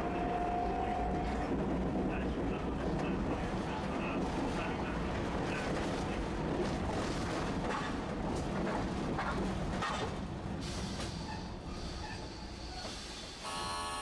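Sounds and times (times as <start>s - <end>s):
streetcar wheels rumbling on rail: 0.0s - 13.5s.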